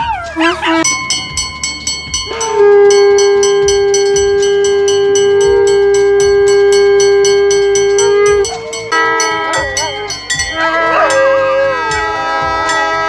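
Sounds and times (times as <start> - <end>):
conch shell blown: 0.4 - 13.0
hand bell ringing rapidly: 0.8 - 13.0.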